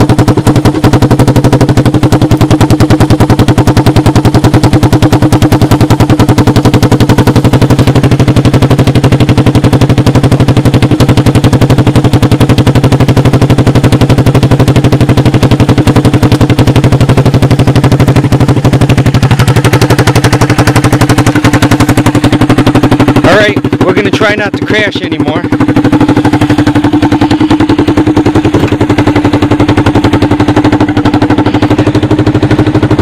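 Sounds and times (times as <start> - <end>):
engine idling with exhaust popping: 0.0 - 33.0.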